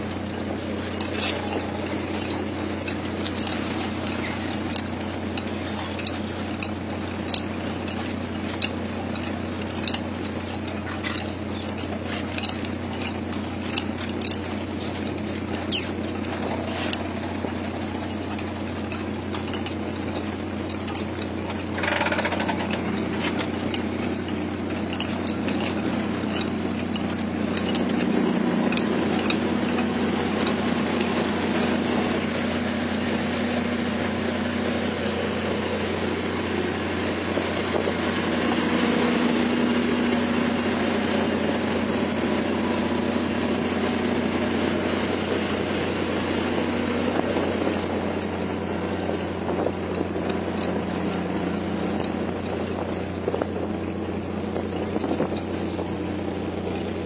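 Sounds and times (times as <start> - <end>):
clicks and rattles: 0.0 - 43.0, 44.0 - 57.0
boat engines droning: 0.0 - 57.0.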